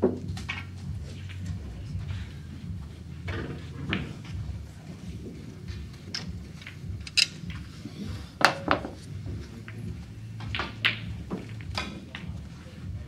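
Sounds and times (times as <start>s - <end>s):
low steady hum: 0.2s - 13.0s.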